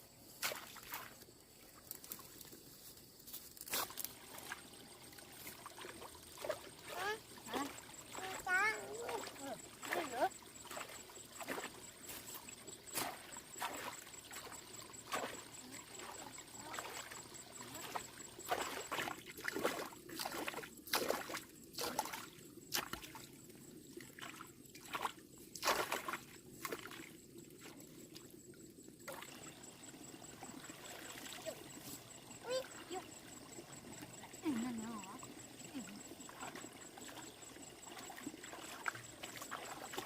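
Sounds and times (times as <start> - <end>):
water splashing and trickling: 0.1 - 40.0
faint wash of water: 4.1 - 40.0.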